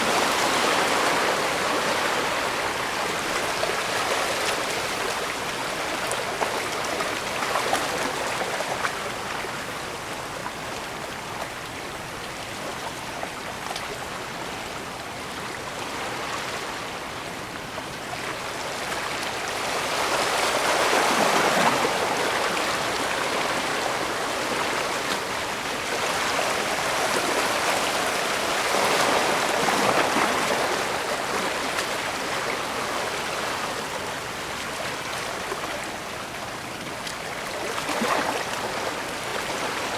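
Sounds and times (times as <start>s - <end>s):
water lapping at shore: 0.0s - 39.9s.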